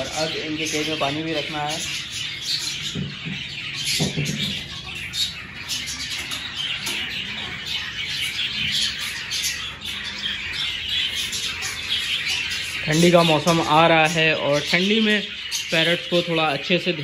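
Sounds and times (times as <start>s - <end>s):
flock of parrots chattering: 0.0s - 17.0s.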